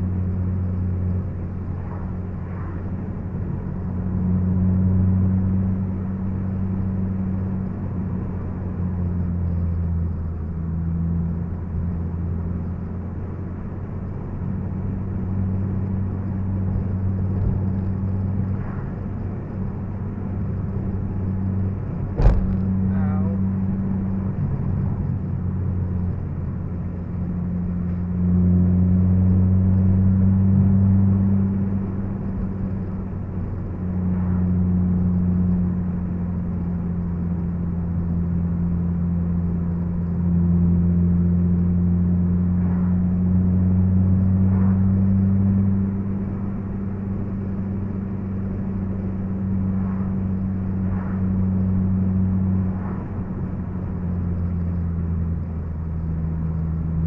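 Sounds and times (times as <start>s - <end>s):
car engine humming: 0.0s - 57.0s
road noise: 0.0s - 57.0s.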